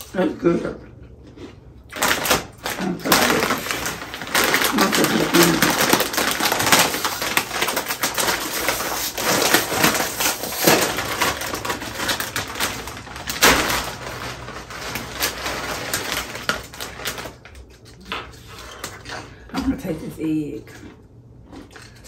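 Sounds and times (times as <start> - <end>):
chewing crunchy food: 0.0 - 13.2, 15.3 - 22.0.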